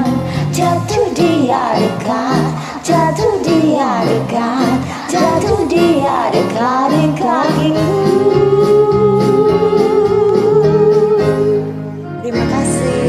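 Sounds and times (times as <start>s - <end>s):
pop backing track: 0.0s - 13.0s.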